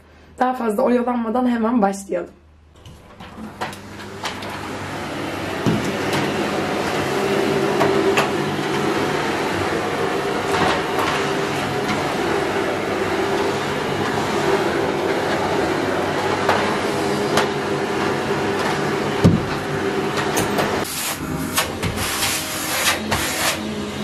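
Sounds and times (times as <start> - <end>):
vacuum cleaner running: 2.8 - 24.0.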